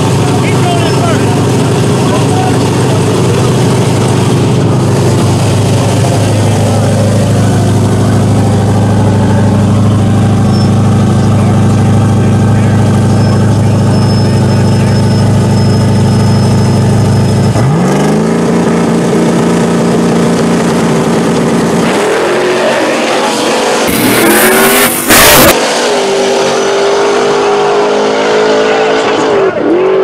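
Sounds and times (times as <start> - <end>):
loud rush of noise: 0.0 - 17.9, 18.7 - 29.7
drag cars rumbling and launching: 0.0 - 30.0.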